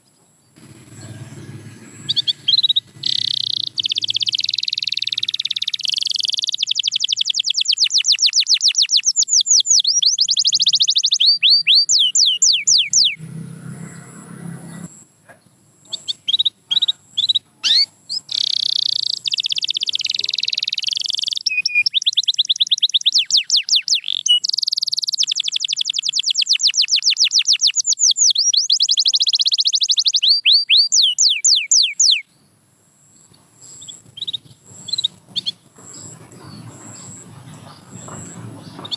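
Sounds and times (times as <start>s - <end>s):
canary singing trills: 0.6s - 38.9s.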